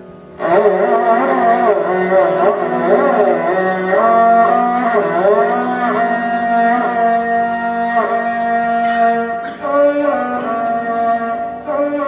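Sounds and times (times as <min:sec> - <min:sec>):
sarangi melody with bowed notes: 0:00.0 - 0:12.0.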